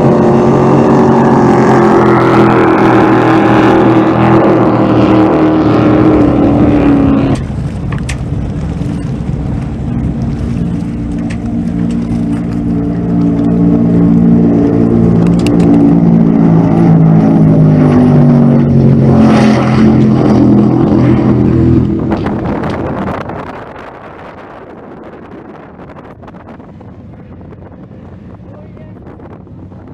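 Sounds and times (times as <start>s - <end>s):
powerboat engines passing: 0.0s - 29.9s.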